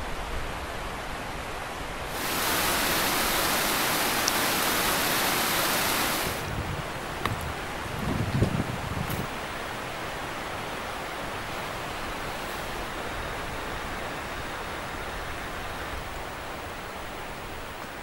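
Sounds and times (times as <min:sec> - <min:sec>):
waterfall rushing water: 0:00.0 - 0:18.0.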